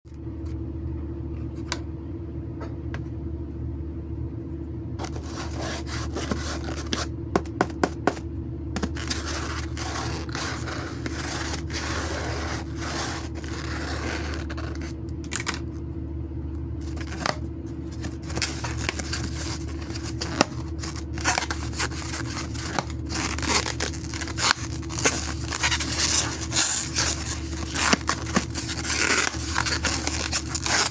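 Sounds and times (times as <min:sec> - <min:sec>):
steady low hum: 0:00.1 - 0:30.9
scraping and rustling handling: 0:05.0 - 0:15.9, 0:16.8 - 0:30.9.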